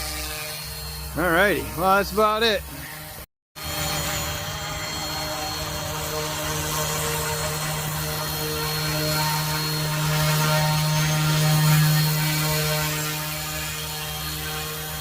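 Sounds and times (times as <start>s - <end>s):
rc helicopter buzzing hum: 0.0s - 15.0s.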